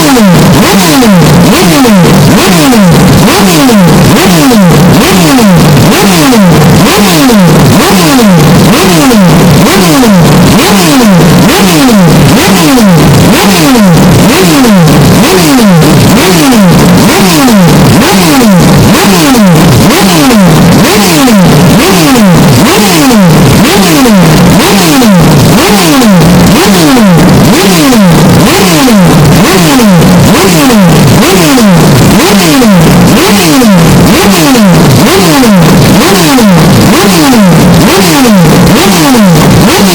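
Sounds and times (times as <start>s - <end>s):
distorted car engine revving: 0.0s - 39.9s.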